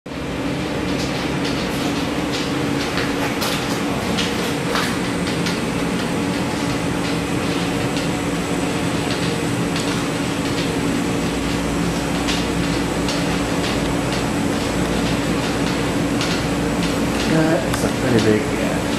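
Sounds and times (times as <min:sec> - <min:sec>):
steady mechanical hum: 0:00.1 - 0:18.9.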